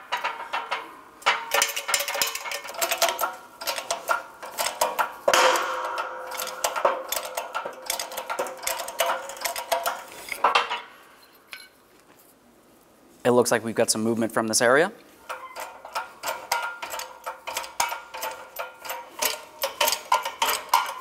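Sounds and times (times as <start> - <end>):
metallic clicking and creaking: 0.0 - 11.8, 15.2 - 21.0.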